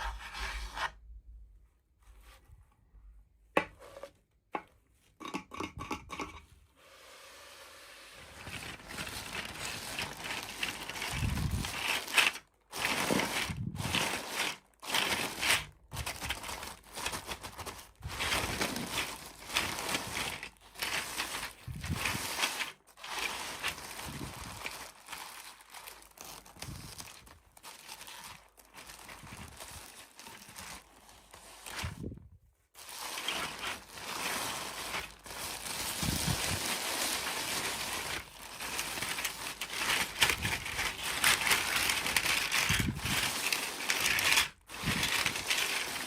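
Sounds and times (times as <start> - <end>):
packaging crinkling and tearing: 8.2 - 32.2, 32.8 - 46.0.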